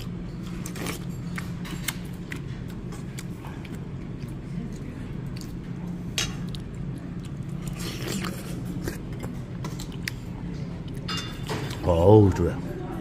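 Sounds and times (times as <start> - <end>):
person chewing: 0.0 - 11.1.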